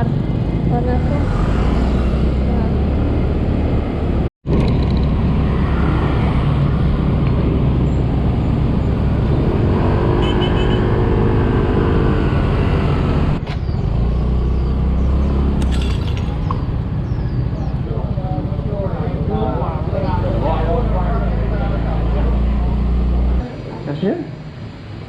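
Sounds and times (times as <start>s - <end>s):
surrounding traffic: 0.0s - 25.0s.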